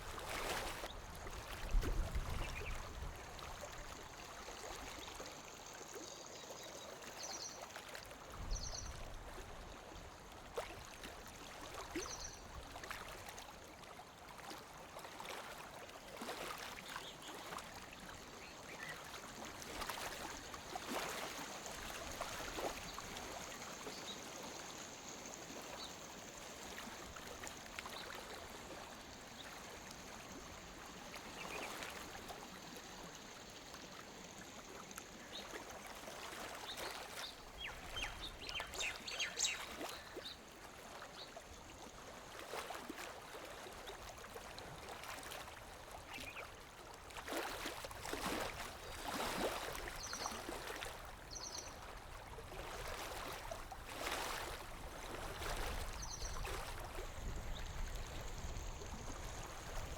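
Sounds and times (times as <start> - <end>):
lake water lapping on shore: 0.0 - 59.9.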